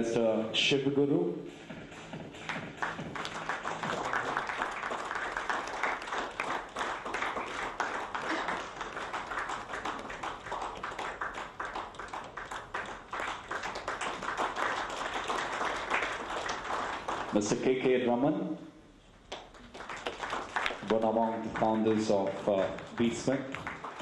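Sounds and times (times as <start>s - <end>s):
audience applauding: 2.4s - 17.6s, 19.3s - 24.0s.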